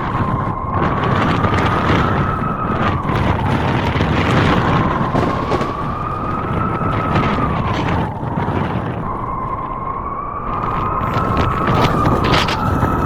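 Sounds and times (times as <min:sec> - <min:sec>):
howling blizzard wind: 0:00.0 - 0:13.0.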